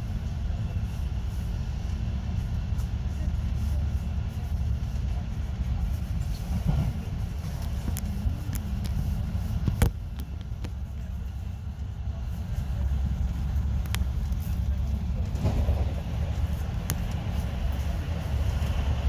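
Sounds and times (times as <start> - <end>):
train passing alongside: 0.0 - 19.0
train wheels rumbling on rails: 0.0 - 19.0.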